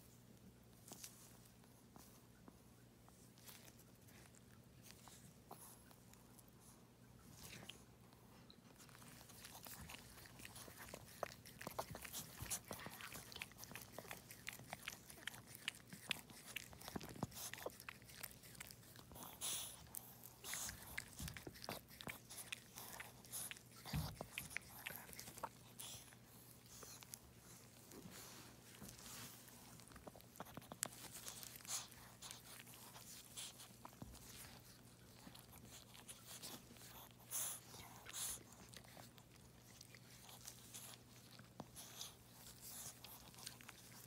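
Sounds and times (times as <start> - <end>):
dog licking and chewing: 3.1 - 44.0.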